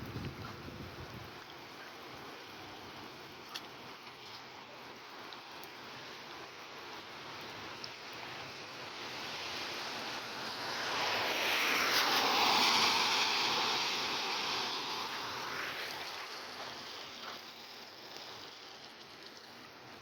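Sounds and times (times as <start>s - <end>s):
rain falling: 0.0s - 20.0s
tyre hiss on wet road: 0.0s - 20.0s.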